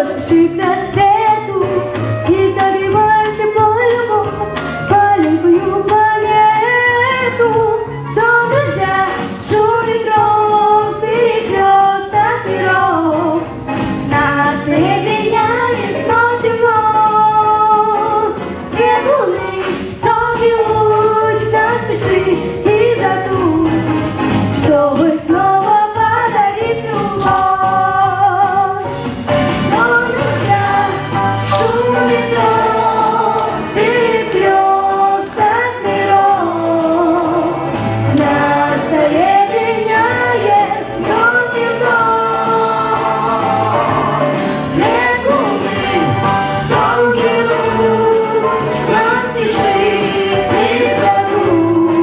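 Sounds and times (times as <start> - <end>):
backing track with beat: 0.0 - 52.0
women singing pop song: 0.0 - 52.0.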